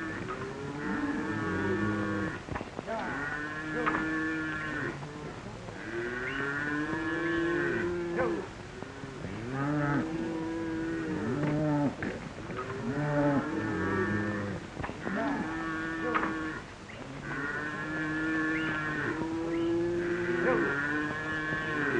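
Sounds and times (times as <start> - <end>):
cattle mooing: 0.0 - 8.5, 9.1 - 21.9.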